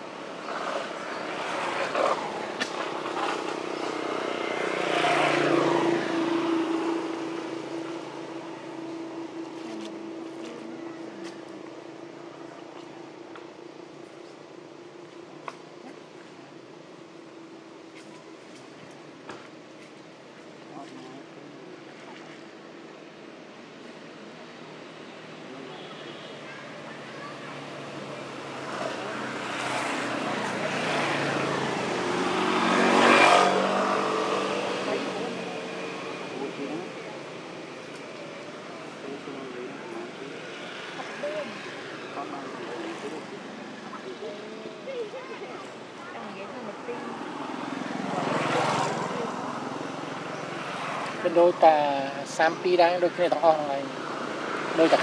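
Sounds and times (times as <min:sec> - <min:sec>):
engine hum passing: 0:00.0 - 0:18.4, 0:26.4 - 0:55.0.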